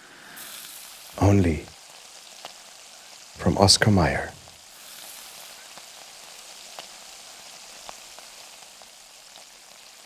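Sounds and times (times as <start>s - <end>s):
bacon sizzling in a frying pan: 0.0s - 3.4s, 4.4s - 10.0s.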